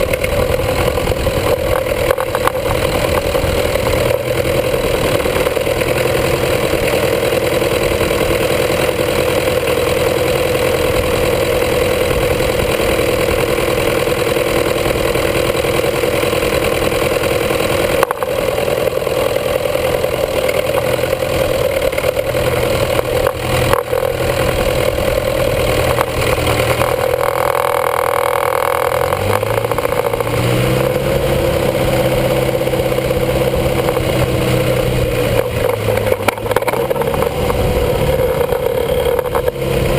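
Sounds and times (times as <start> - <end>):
tractor engine running hard: 0.0 - 39.9.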